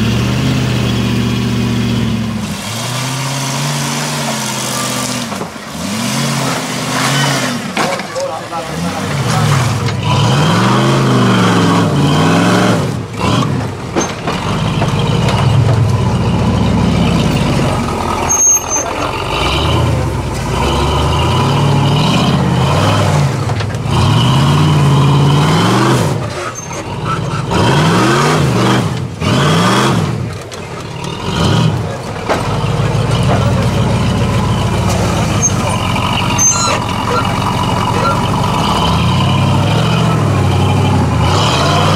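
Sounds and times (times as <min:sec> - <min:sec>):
off-road vehicle engines revving: 0:00.0 - 0:41.9.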